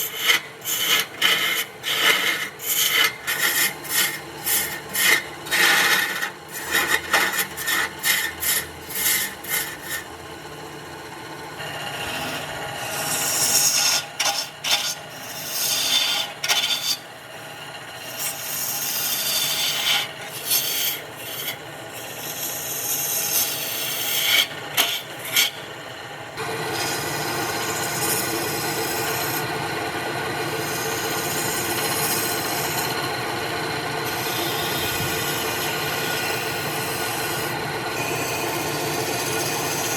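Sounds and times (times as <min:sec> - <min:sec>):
tool scraping spinning wood: 0:00.0 - 0:10.9, 0:11.6 - 0:39.9.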